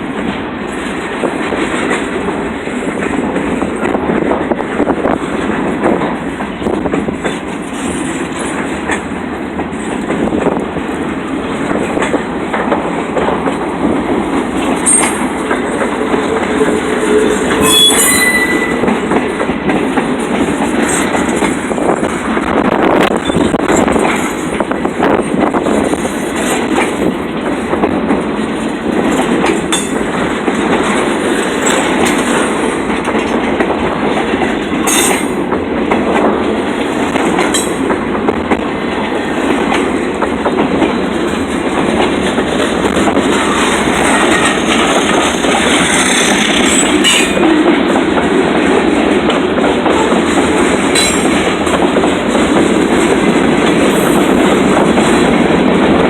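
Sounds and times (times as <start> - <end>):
train wheels clacking on rails: 0.0 - 56.0.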